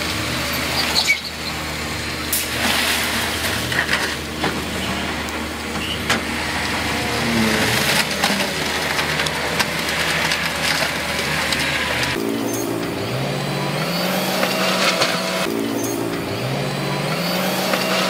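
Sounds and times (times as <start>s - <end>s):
heavy machinery diesel engines: 0.0s - 18.0s.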